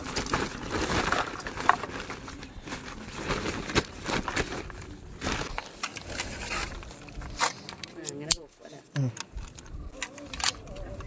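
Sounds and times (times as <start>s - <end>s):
rustling handling noises: 0.0s - 11.0s.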